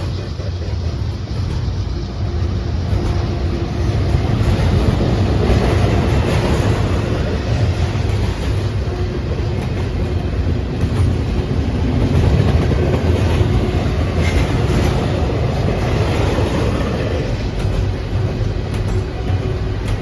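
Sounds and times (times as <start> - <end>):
freight train wheels rumbling on rail: 0.0 - 20.0.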